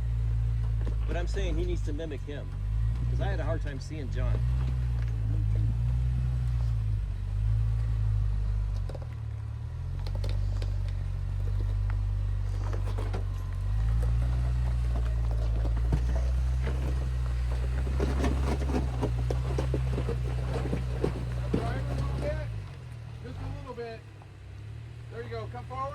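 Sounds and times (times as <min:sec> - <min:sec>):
tyres crunching on rock: 0:00.0 - 0:08.0, 0:08.6 - 0:24.0
off-road vehicle engine at low revs: 0:00.0 - 0:25.9.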